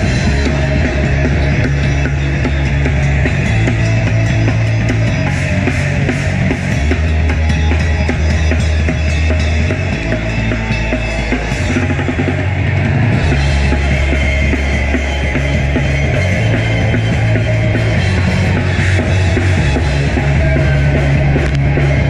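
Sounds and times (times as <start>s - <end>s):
distorted guitars and bass: 0.0s - 22.0s
driving drum kit: 0.0s - 22.0s.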